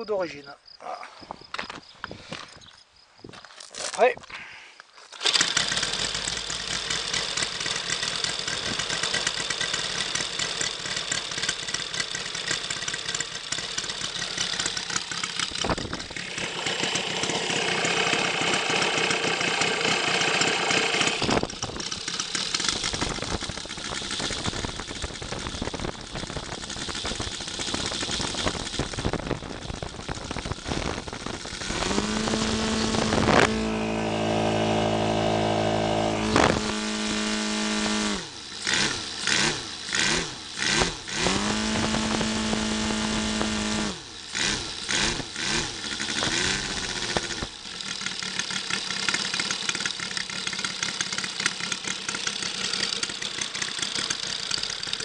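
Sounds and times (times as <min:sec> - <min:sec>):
model radial engine running: 0:05.2 - 0:55.0.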